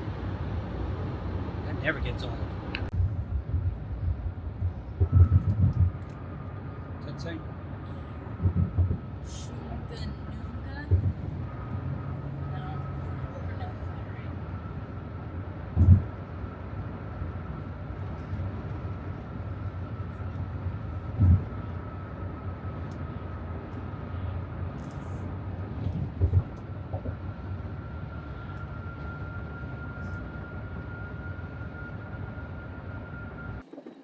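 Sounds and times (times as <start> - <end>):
car tyres and engine rumble: 0.0 - 34.0
faint steady whine: 0.0 - 34.0.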